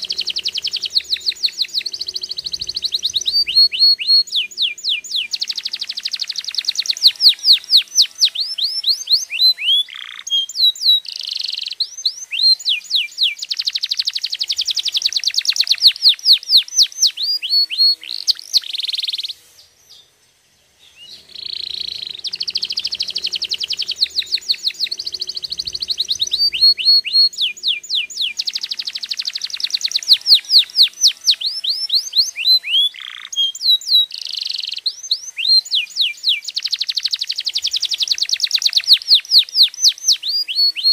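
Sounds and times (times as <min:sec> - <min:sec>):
canary singing: 0:00.0 - 0:20.1, 0:20.7 - 0:40.9.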